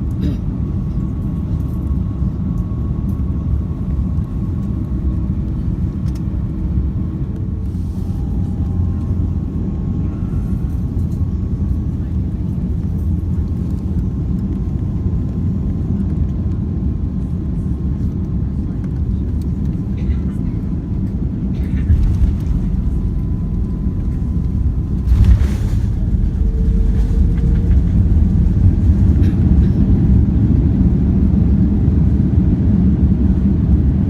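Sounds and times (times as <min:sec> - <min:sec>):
aircraft engine cabin rumble: 0:00.0 - 0:34.0.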